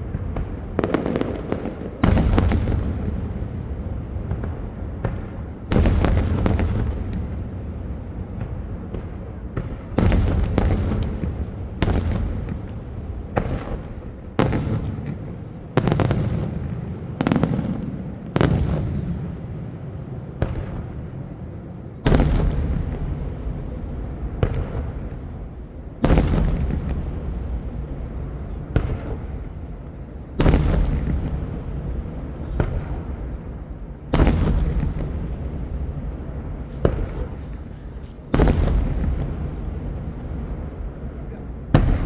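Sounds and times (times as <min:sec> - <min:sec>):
fireworks bursting with echo: 0:00.0 - 0:42.0.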